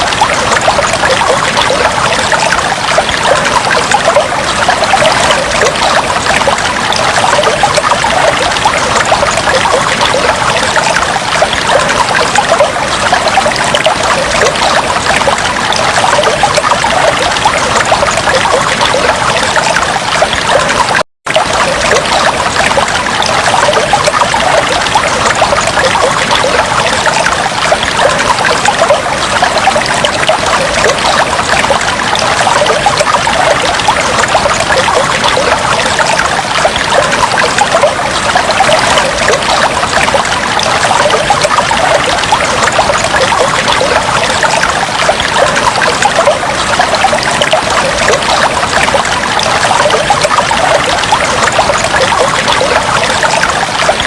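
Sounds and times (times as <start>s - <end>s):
aquarium water trickling and bubbling: 0.0s - 54.0s.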